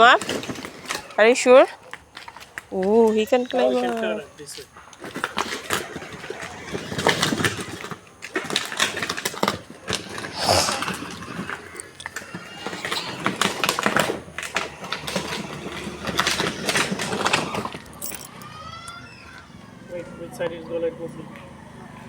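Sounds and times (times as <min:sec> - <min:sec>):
wheels clattering over rough ground: 0:00.0 - 0:22.0.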